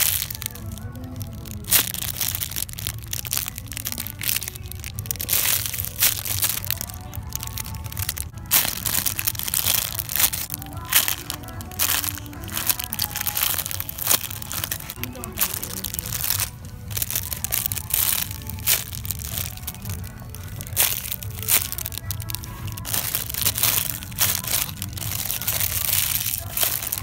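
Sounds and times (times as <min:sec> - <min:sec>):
music playing: 0:00.0 - 0:27.0
plastic bags crinkling: 0:00.0 - 0:27.0.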